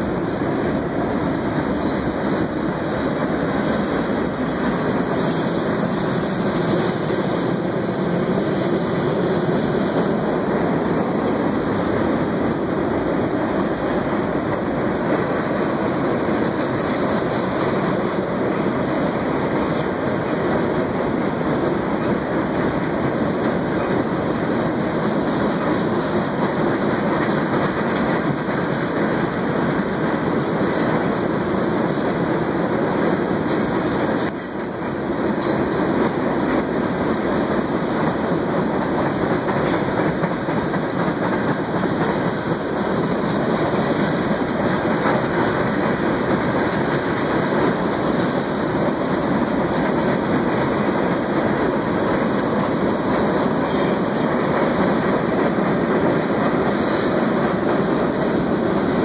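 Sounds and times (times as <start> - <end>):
train wheels on a steel bridge: 0.0 - 59.0.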